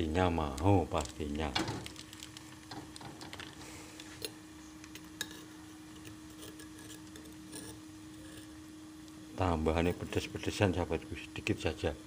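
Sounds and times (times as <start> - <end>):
food crackling in a pot: 0.0 - 12.0
gas burner hum: 0.0 - 12.0.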